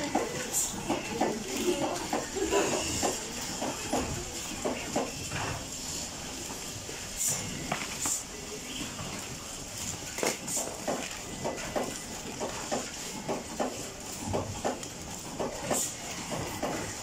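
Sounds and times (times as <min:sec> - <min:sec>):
high hiss of workshop noise: 0:00.0 - 0:17.0.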